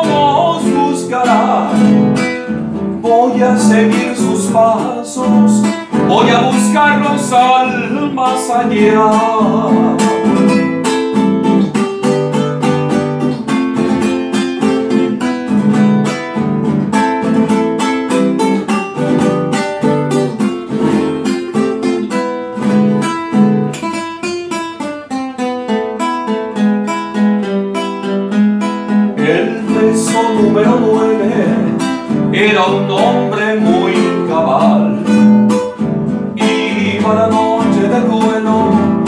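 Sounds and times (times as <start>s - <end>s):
acoustic guitar fast strumming: 0.0s - 39.0s.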